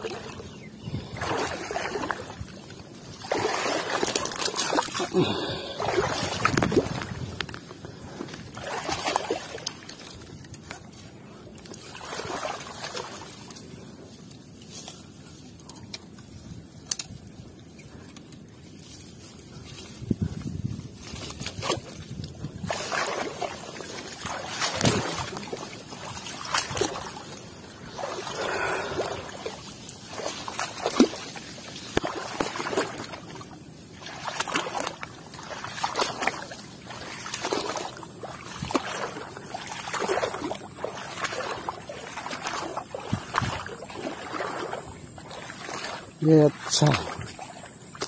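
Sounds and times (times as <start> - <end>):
water splashing and dripping: 0.0 - 13.8, 21.0 - 48.0
brush rustling and snapping: 1.9 - 5.2, 6.2 - 17.4, 18.1 - 28.2, 29.4 - 43.8.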